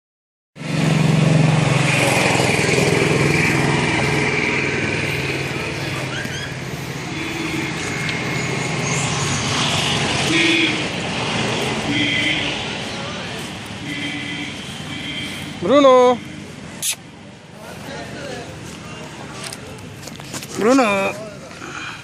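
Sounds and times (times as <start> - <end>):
engine humming: 0.6 - 22.0.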